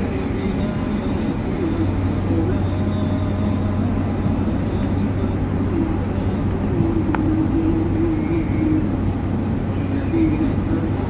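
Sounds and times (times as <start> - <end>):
car driving road noise: 0.0 - 11.0.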